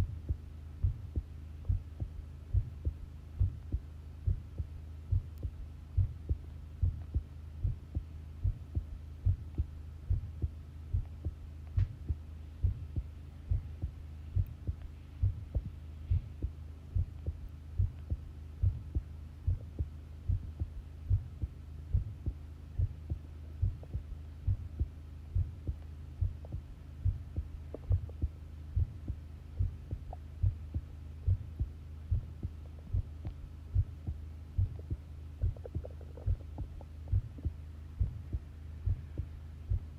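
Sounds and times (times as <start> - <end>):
human heartbeat thumps: 0.0 - 39.9
low hum: 0.0 - 39.9.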